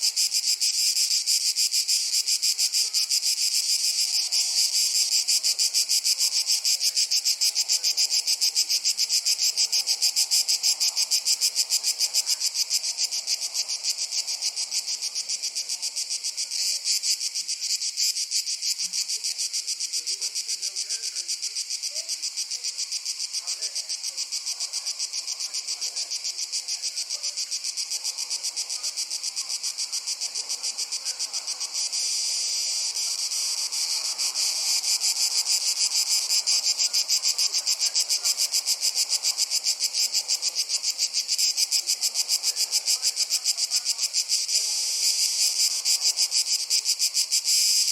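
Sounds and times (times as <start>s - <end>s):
crickets chirping: 0.0s - 47.9s.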